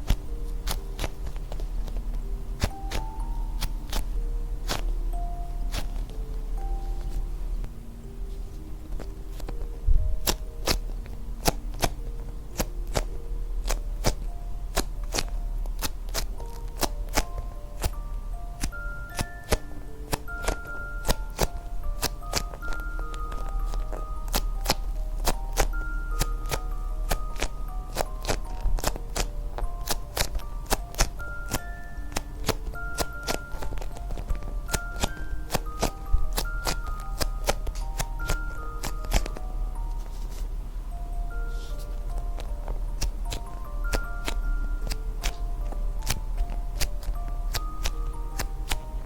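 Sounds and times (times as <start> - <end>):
clicking beat: 0.0 - 7.8, 8.6 - 40.0, 41.2 - 49.0
music-box style melody: 0.0 - 49.0.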